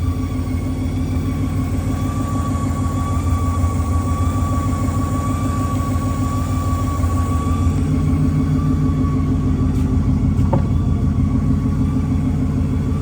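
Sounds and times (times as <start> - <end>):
car engine rumble: 0.0 - 13.0
high whistling whine: 0.0 - 13.0.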